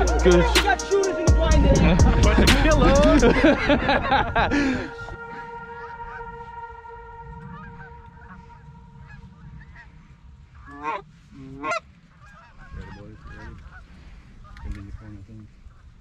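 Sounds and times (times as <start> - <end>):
geese honking: 0.0 - 16.0
wind rumble on microphone: 1.3 - 16.0.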